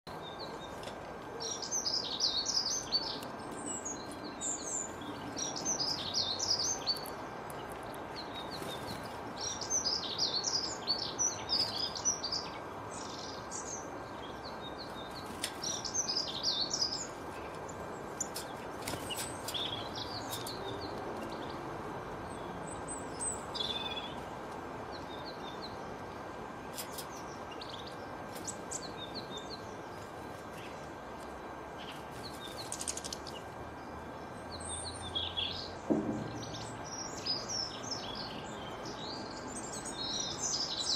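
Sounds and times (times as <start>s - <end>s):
songbirds chirping and twittering: 0.0s - 40.9s
steady background hiss: 0.1s - 40.9s.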